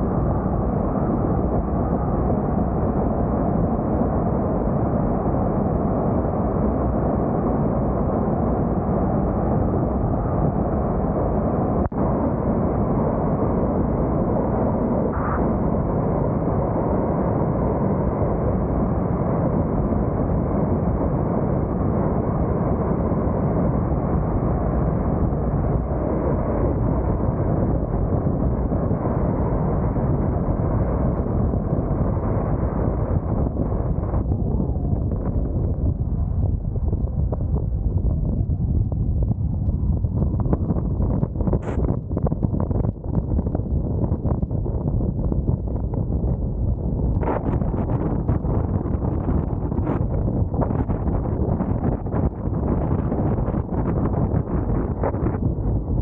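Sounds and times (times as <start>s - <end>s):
wind and road noise rumbling: 0.0s - 56.0s.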